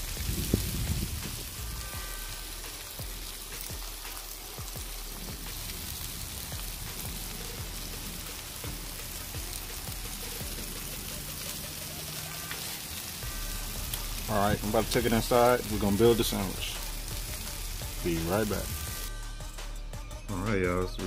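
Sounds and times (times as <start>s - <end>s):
food sizzling on a griddle: 0.0s - 19.2s.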